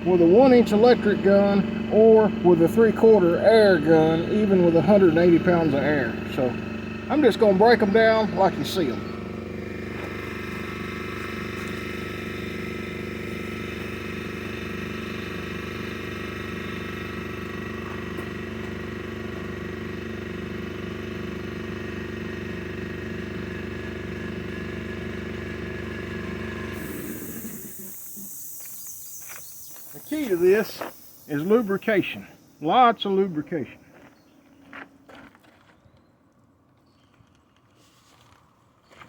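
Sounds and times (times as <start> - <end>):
engine idling: 0.0 - 35.1.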